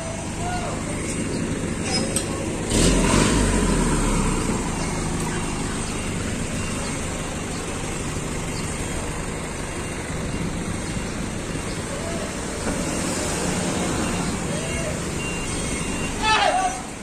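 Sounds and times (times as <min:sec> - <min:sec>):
deep vehicle rumble: 0:00.0 - 0:17.0
steady rush of traffic: 0:00.0 - 0:17.0.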